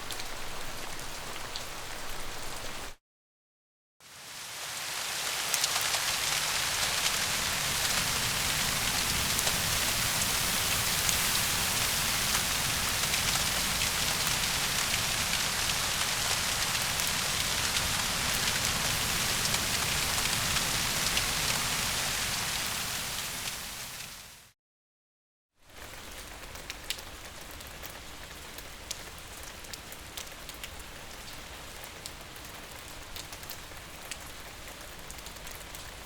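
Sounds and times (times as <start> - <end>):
steady rain falling: 0.0 - 3.0, 4.0 - 24.5, 25.8 - 36.0.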